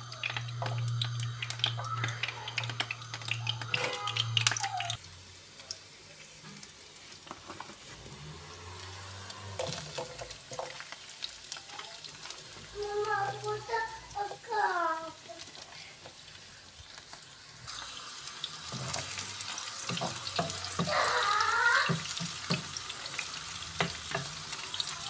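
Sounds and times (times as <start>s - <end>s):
oil sizzling in a frying pan: 0.0s - 25.0s.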